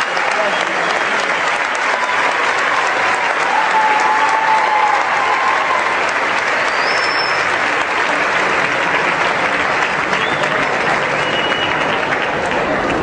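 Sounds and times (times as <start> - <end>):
applause: 0.0 - 13.0.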